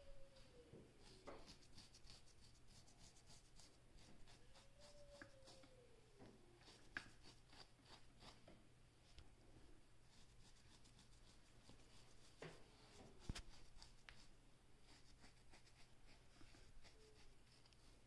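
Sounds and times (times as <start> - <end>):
comb scratching through hair: 1.0 - 5.8, 6.6 - 8.5, 10.1 - 18.0.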